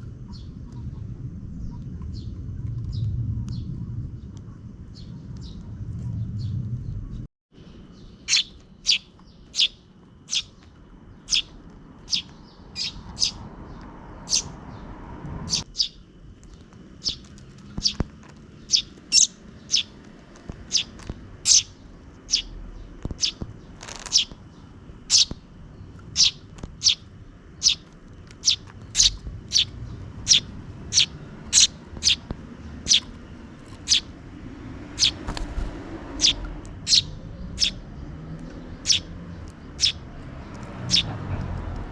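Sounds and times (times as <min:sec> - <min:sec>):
sparrows chirping: 0:00.1 - 0:41.9.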